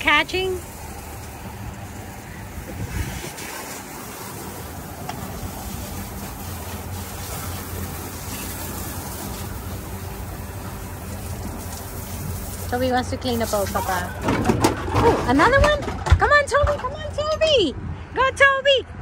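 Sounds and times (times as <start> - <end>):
water noise: 0.0 - 15.8
wind: 0.0 - 19.0.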